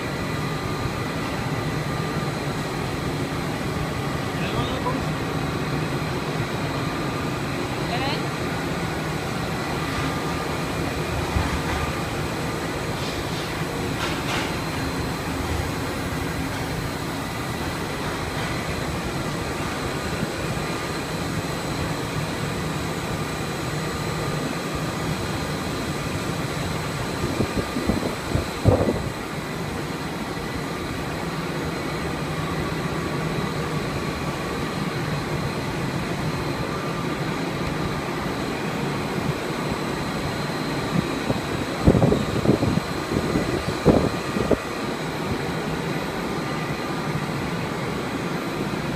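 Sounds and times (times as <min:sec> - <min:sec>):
machine and fans whirring: 0:00.0 - 0:48.9.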